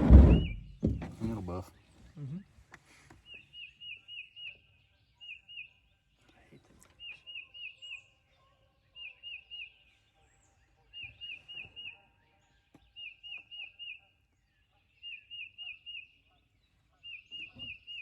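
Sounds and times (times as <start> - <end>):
faint outdoor background: 0.0 - 18.0.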